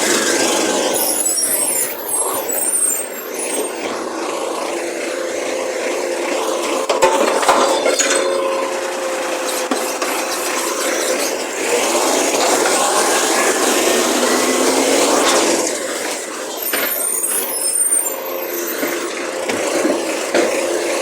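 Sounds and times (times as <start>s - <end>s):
recyclables rattling and scraping: 0.0s - 5.0s, 6.0s - 21.0s
hydraulic whine: 0.0s - 21.0s.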